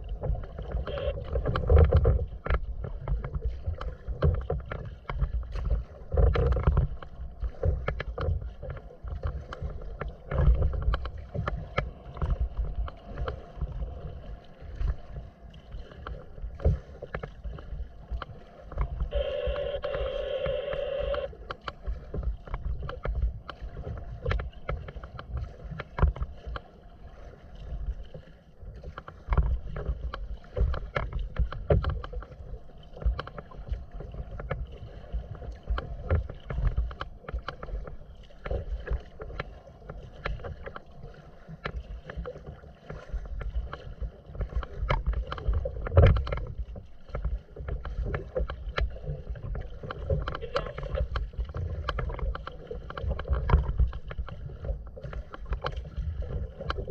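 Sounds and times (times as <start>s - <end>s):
water splashing against kayak hull: 0.0s - 56.9s
wind rumble on microphone: 0.0s - 56.9s.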